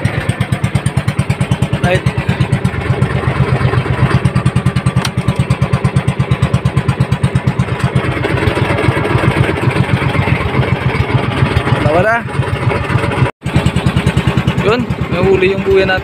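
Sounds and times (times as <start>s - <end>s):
boat engine thudding: 0.0s - 16.0s.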